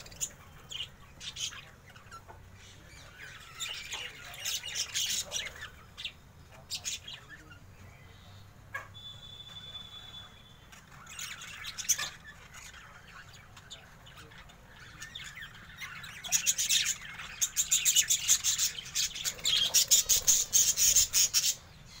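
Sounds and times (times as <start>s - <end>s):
budgerigars chirping and squawking: 0.0s - 22.0s.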